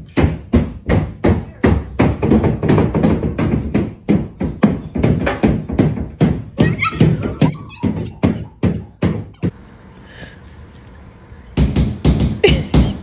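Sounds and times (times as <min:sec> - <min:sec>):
hard knocking thumps: 0:00.1 - 0:09.6, 0:11.6 - 0:13.0.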